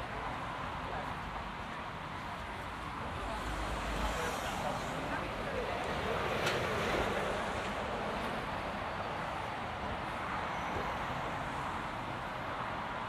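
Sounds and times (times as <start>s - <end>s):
passing vehicles: 0.0s - 13.0s.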